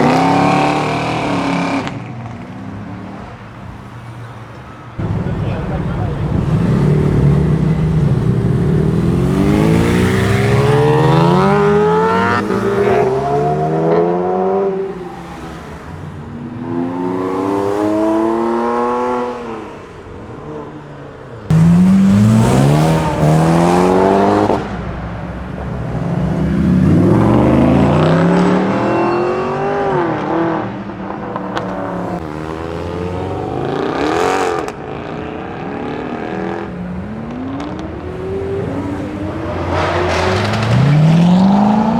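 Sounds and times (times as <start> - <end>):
cars accelerating through gears: 0.0 - 4.3, 5.0 - 20.8, 21.4 - 41.9.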